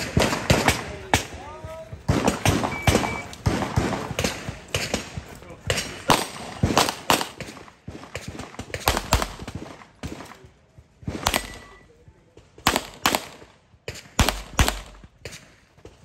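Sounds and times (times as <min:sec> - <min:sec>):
pistol shots in pairs: 0:00.0 - 0:16.0.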